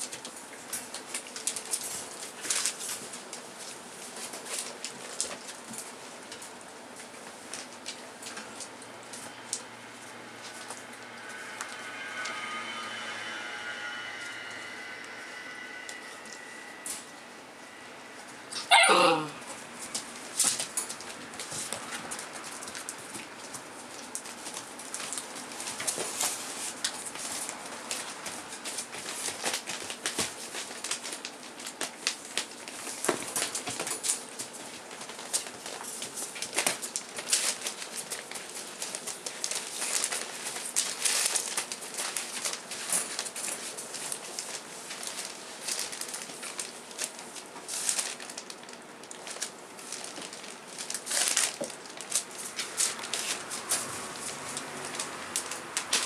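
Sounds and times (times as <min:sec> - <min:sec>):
newspaper rustling and crinkling: 0:00.0 - 0:09.6, 0:19.8 - 0:56.0.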